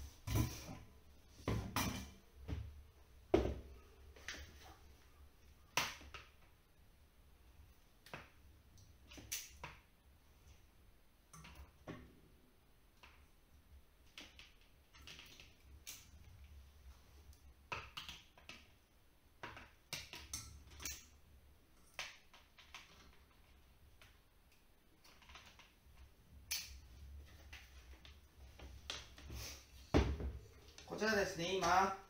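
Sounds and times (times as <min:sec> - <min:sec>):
faint clicks and rustles of wires: 0:00.0 - 0:32.0.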